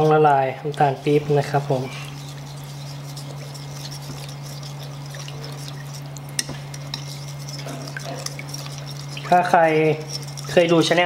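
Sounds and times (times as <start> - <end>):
steady low hum: 0.0 - 11.0
metal spoon stirring in glass bowl: 0.7 - 11.0.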